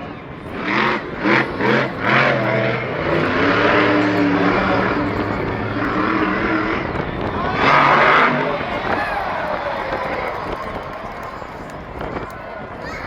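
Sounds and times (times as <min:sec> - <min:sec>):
vehicle engine revving: 0:00.0 - 0:12.8.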